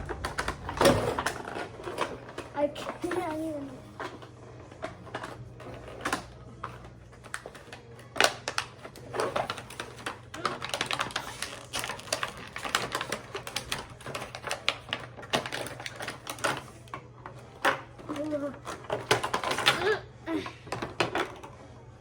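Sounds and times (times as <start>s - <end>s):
hard plastic clicking and rattling: 0.0s - 21.6s.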